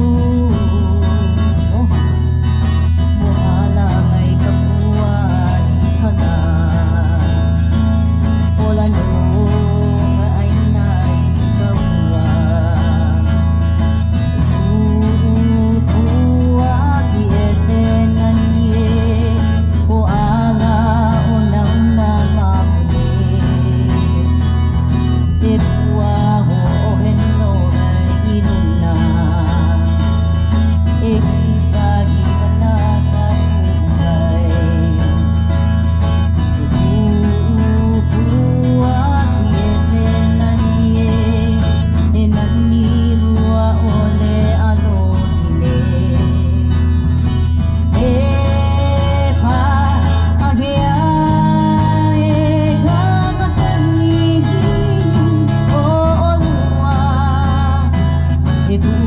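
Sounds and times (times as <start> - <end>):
heavy steady bass: 0.0 - 59.0
person singing: 0.0 - 59.0
strummed guitar: 0.0 - 59.0.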